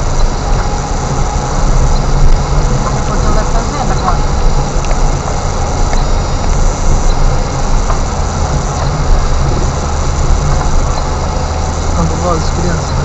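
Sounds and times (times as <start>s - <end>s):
car rumbling on rough track: 0.0s - 13.0s.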